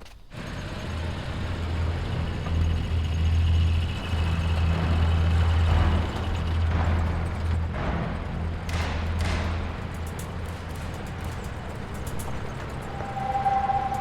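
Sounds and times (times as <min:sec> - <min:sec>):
low droning rumble: 0:00.5 - 0:14.0.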